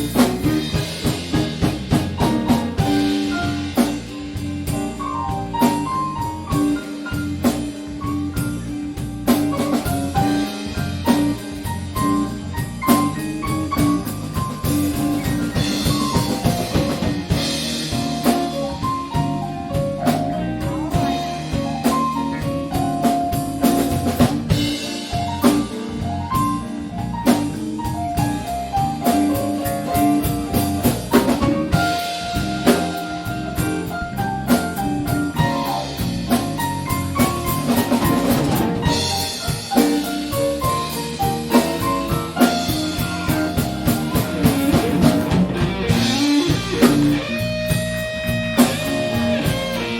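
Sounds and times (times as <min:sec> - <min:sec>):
bass groove: 0:00.0 - 0:49.9
drum kit: 0:00.0 - 0:49.9
guitar playing: 0:00.0 - 0:49.9
keyboards playing: 0:00.0 - 0:49.9.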